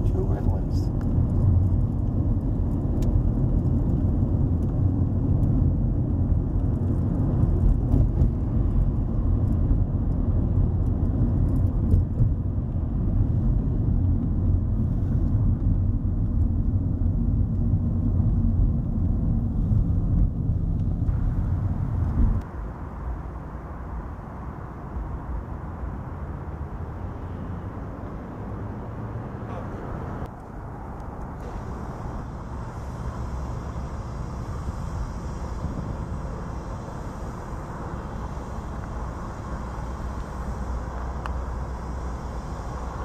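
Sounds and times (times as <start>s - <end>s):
car road noise rumble: 0.0s - 43.0s.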